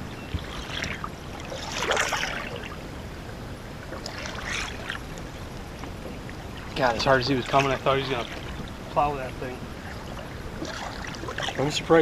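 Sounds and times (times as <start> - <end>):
water swishing and splashing: 0.0 - 12.0.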